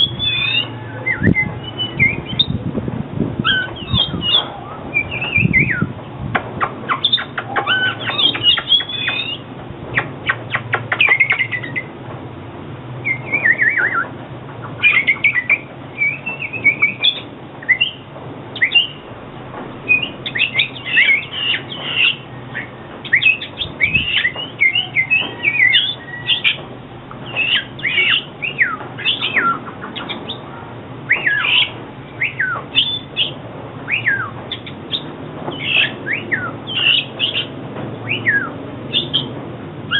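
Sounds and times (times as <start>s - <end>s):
bird harsh chattering: 0.0s - 2.6s, 3.4s - 11.9s, 13.1s - 18.0s, 18.6s - 19.1s, 19.9s - 26.6s, 27.2s - 30.5s, 31.1s - 39.3s
bird singing whistled phrases: 0.0s - 2.6s, 3.4s - 5.9s, 6.9s - 9.4s, 10.2s - 11.9s, 13.0s - 14.1s, 14.7s - 18.0s, 18.6s - 19.0s, 19.9s - 26.6s, 27.3s - 30.4s, 31.1s - 39.3s.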